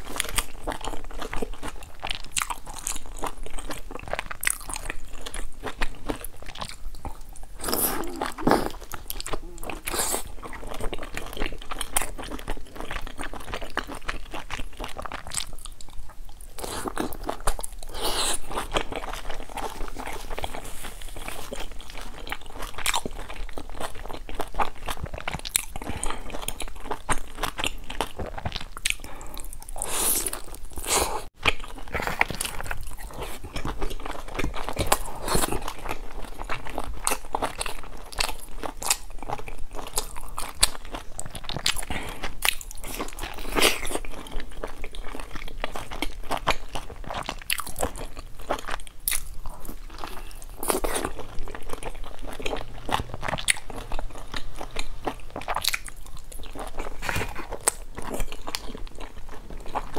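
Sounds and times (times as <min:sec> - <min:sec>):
crunchy wet chewing of buns: 0:00.0 - 0:59.9.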